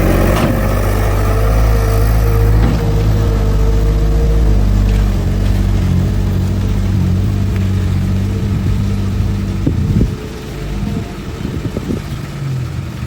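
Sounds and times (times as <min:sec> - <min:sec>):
heavy diesel engine running: 0:00.0 - 0:13.0
high steady whine: 0:00.0 - 0:13.0.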